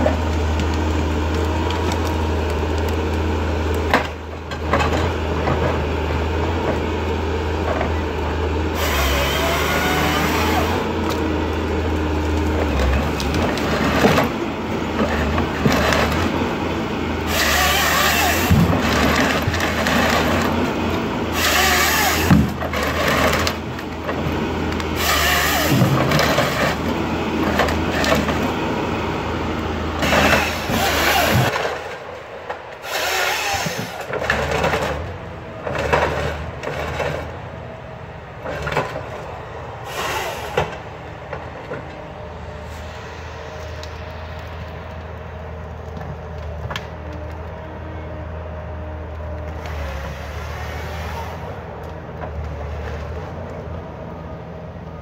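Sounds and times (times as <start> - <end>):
hydraulic saw cutting logs: 0.0 - 37.4, 38.4 - 44.8, 49.2 - 53.6
diesel engine drone: 0.0 - 55.0.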